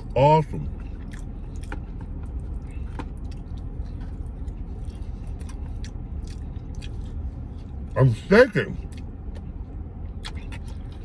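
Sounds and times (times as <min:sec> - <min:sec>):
man chewing crunchy food: 0:00.0 - 0:08.0, 0:08.8 - 0:11.0
low rumble inside vehicle: 0:00.0 - 0:11.0.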